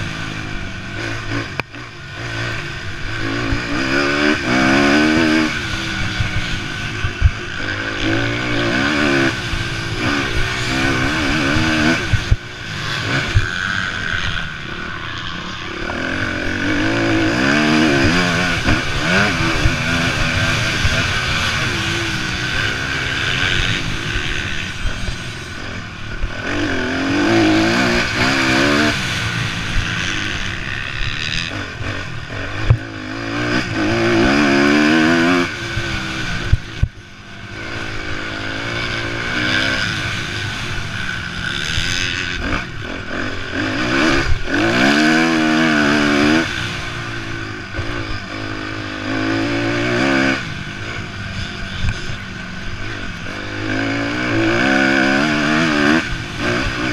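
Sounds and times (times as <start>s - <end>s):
motocross engines revving: 0.0s - 56.9s.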